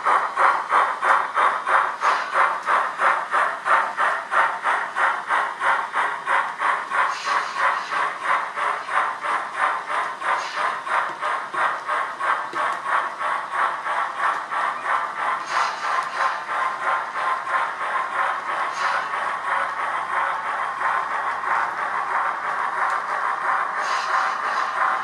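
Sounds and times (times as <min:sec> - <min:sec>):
model steam locomotive chuffs: 0:00.0 - 0:25.0.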